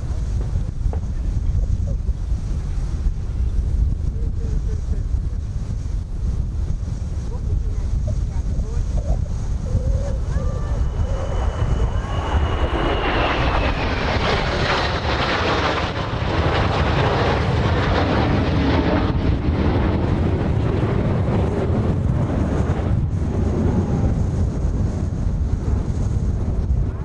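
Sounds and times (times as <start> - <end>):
jet aircraft flying past: 0.0 - 27.0
wind rumble on microphone: 0.0 - 27.0.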